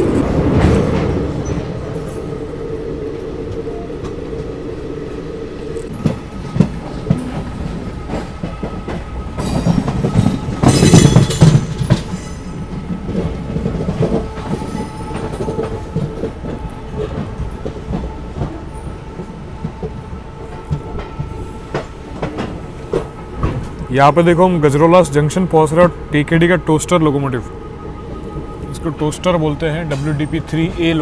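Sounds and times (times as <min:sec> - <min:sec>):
train rushing rumble: 0:00.0 - 0:31.0.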